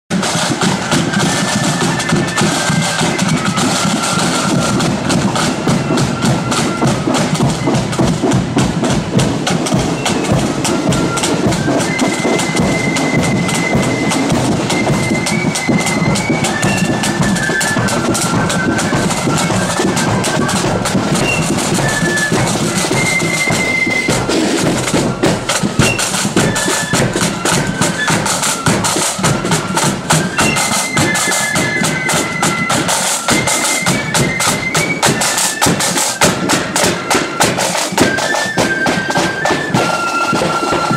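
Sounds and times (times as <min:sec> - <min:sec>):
flutes playing a tune: 0:00.1 - 0:40.9
side drum beats: 0:00.1 - 0:40.9.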